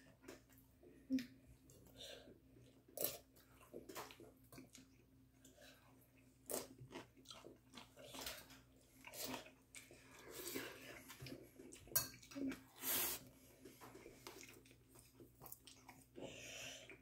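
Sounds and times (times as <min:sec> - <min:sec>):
child chewing: 0:00.0 - 0:17.0.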